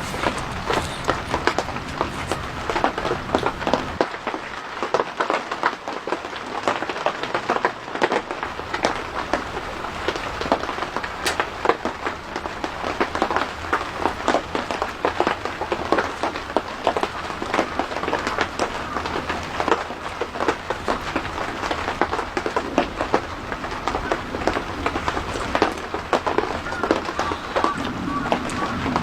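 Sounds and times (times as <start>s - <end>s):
dense crackling and pattering: 0.0s - 29.0s.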